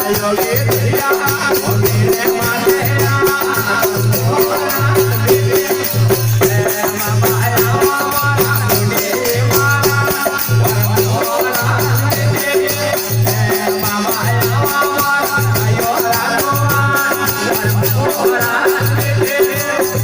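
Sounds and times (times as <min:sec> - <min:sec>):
rattling jingling percussion: 0:00.0 - 0:20.0.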